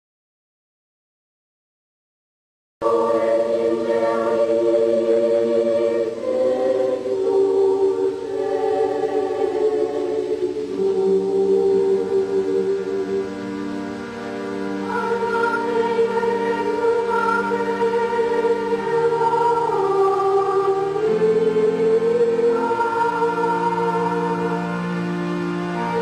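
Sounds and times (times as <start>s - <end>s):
choir singing long chords: 2.8s - 26.0s.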